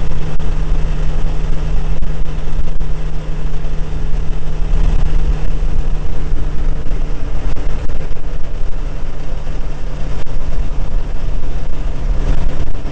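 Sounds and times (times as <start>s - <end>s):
car engine cruising: 0.0s - 12.9s
wind rumble on microphone: 0.0s - 12.9s.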